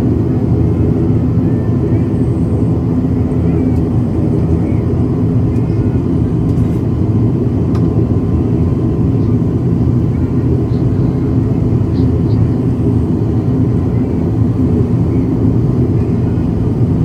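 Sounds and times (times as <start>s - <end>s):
turboprop engines droning: 0.0s - 17.0s.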